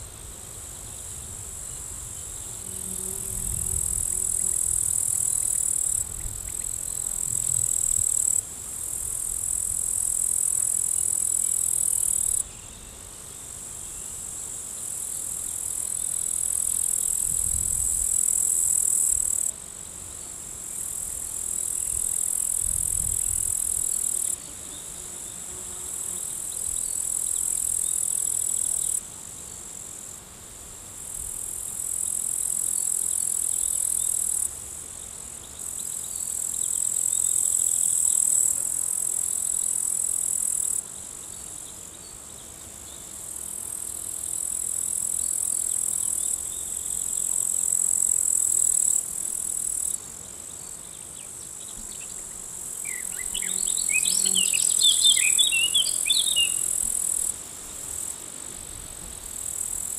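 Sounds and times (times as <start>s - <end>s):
insect chorus buzzing: 0.0s - 59.9s.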